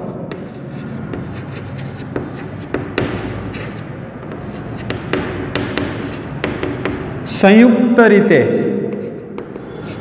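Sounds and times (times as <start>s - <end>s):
chalk tapping and scratching: 0.3s - 7.4s, 8.5s - 10.0s.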